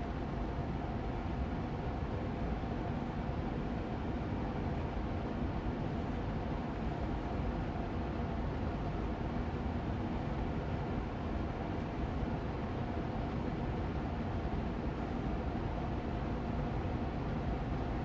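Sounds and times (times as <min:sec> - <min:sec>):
air purifier fan running: 0:00.0 - 0:18.0.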